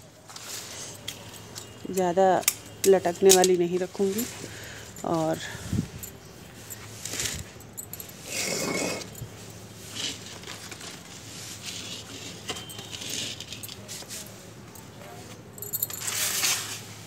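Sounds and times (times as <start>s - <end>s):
leaves and stems rustling: 0.0s - 8.4s, 9.1s - 17.0s
light clicks and jingles: 0.3s - 16.8s.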